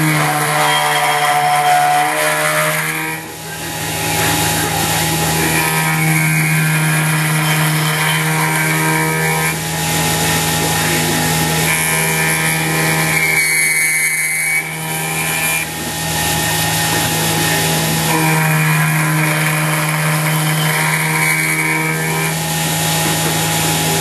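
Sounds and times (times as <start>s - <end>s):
high cutting whine: 0.0s - 24.0s
milling machine spindle hum: 0.0s - 24.0s.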